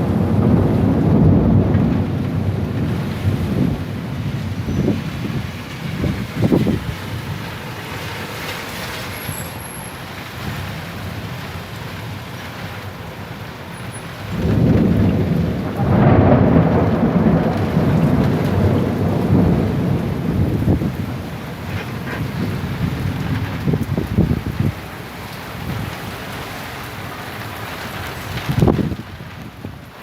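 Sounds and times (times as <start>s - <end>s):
rolling thunder: 0.0s - 26.4s, 27.3s - 30.0s
steady rain: 0.0s - 30.0s.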